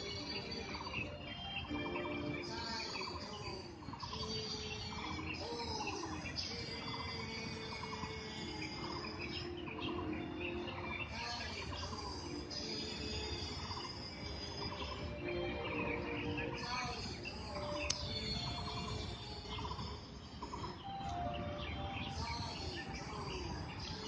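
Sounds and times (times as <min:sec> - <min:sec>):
birds chirping in trills: 0:00.0 - 0:24.0
slow background music: 0:00.0 - 0:24.0.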